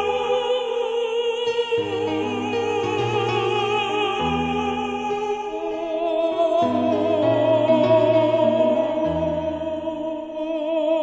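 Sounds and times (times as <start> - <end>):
operatic classical music: 1.6 - 10.7.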